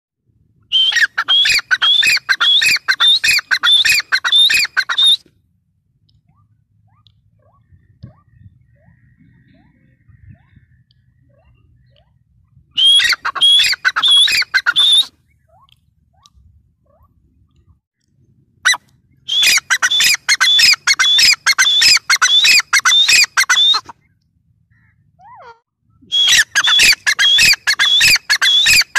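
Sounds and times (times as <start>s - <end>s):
bird calling shrill notes: 0.7s - 5.2s, 6.3s - 17.2s, 18.7s - 23.9s, 24.7s - 28.9s.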